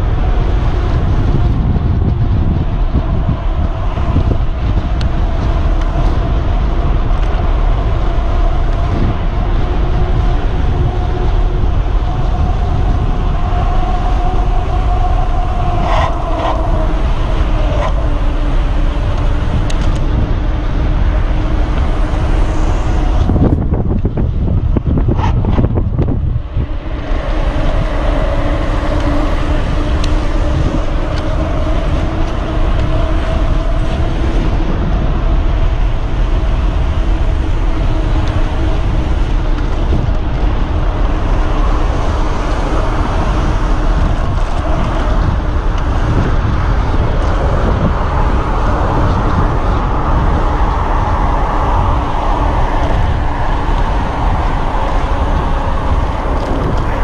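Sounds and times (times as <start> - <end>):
tyres on asphalt: 0.0 - 57.0
wind buffeting microphone: 0.0 - 57.0.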